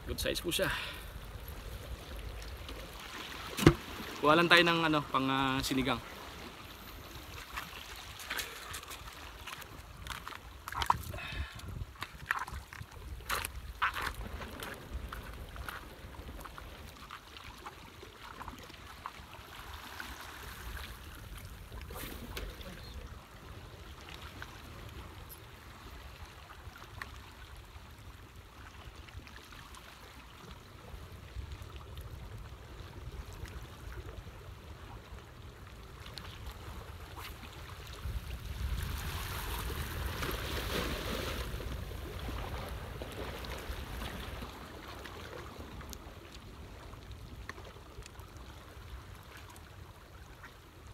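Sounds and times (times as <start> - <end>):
water sloshing and lapping: 0.0 - 50.9.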